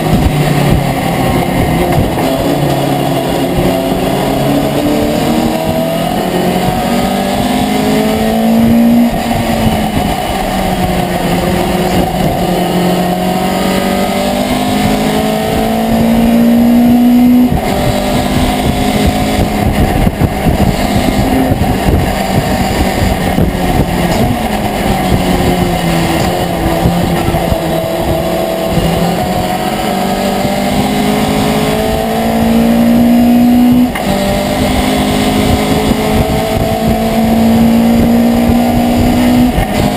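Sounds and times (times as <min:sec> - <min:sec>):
racing truck engine revving: 0:00.0 - 0:39.9.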